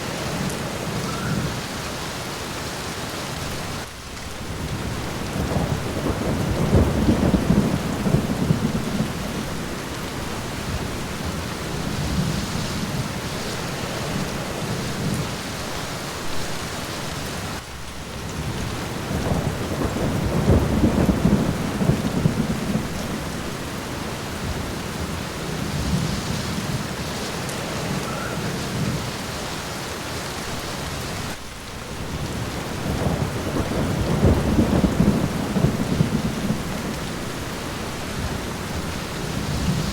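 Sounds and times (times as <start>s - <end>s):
steady rain falling: 0.0s - 39.9s
rolling thunder: 3.5s - 15.5s, 18.2s - 29.7s, 30.4s - 39.9s.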